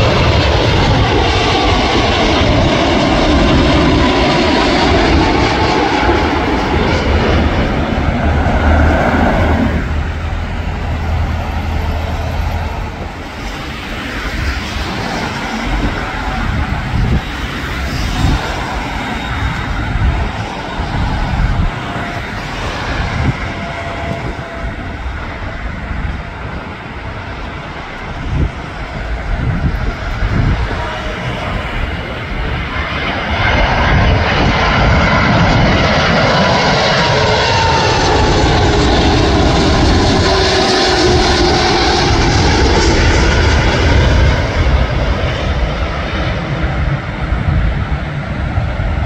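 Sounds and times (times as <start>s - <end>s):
distant airliner rumble: 0.0s - 49.0s
jet airliner passing low overhead: 0.0s - 49.0s.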